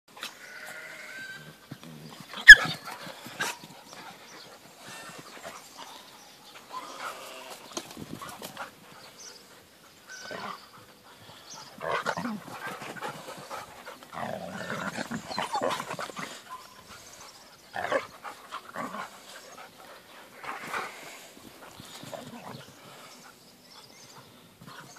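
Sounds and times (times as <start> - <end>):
dogs growling and snarling: 1.3 - 23.5.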